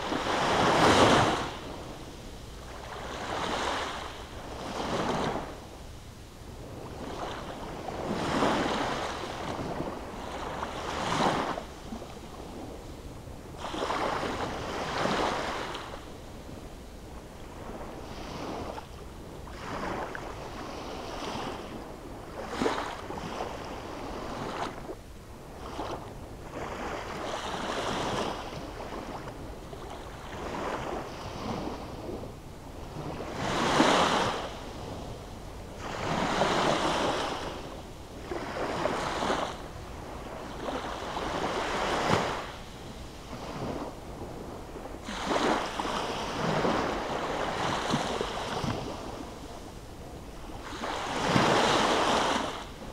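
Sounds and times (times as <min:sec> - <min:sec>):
waves breaking on a shore: 0:00.0 - 0:52.9.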